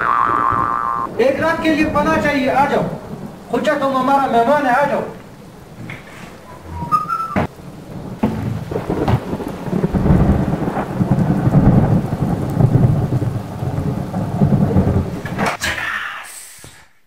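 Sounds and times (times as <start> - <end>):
thunder rumbling: 0.0 - 15.6
steady rain: 1.1 - 16.8.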